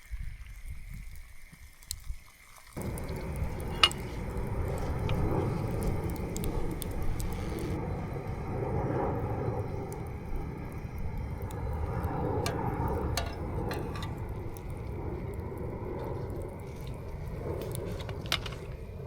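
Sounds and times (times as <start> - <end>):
steady watery noise: 0.0 - 19.0.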